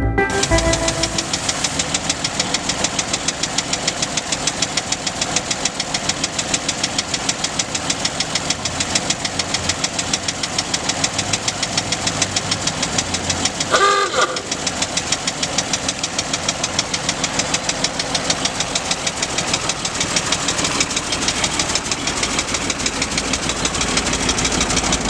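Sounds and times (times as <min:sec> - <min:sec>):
car engine idling: 0:01.0 - 0:25.0.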